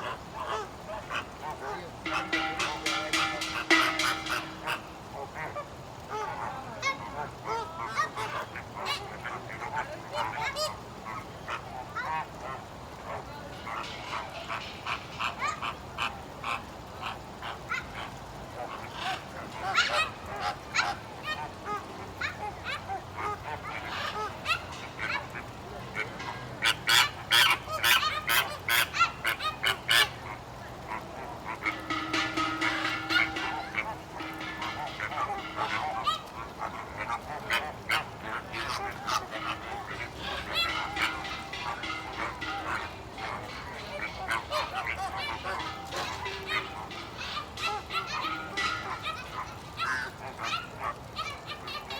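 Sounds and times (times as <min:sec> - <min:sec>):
flamingos honking: 0:00.0 - 0:51.9.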